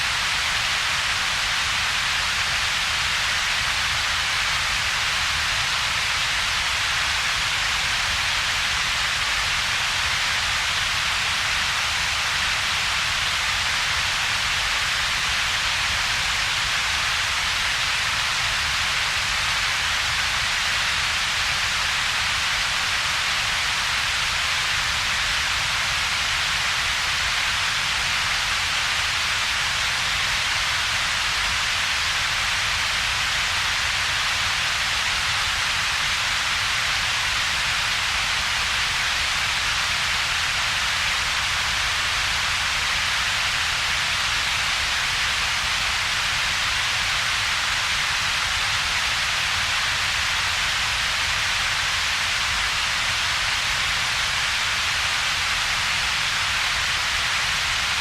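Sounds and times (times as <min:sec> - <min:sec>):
steady synthetic hiss: 0:00.0 - 0:58.0.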